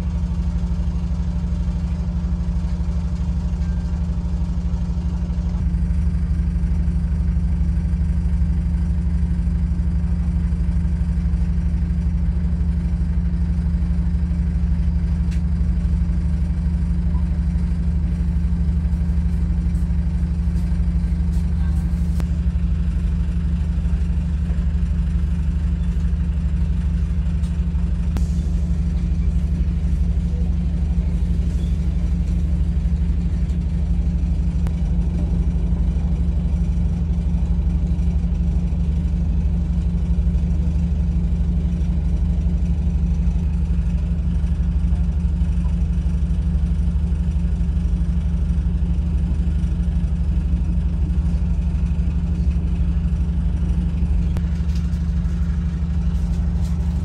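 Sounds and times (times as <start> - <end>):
vehicle engine running steadily: 0.0 - 57.0.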